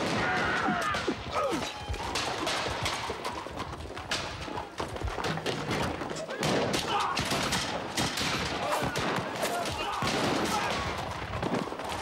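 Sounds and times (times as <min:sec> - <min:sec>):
horse hooves galloping: 0:00.0 - 0:12.0.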